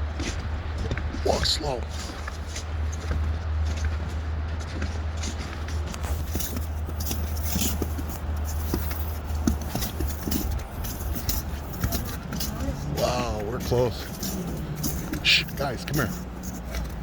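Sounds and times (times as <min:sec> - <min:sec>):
footsteps crunching on snow: 0:00.0 - 0:17.0.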